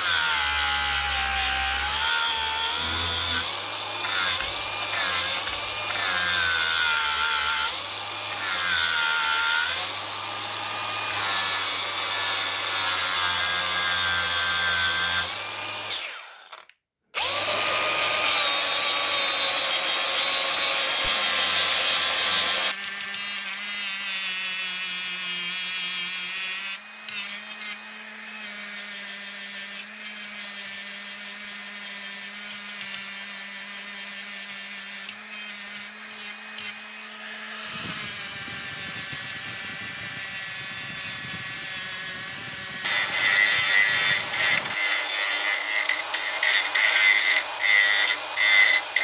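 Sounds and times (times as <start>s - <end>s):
angle grinder grinding metal: 0.0s - 49.0s.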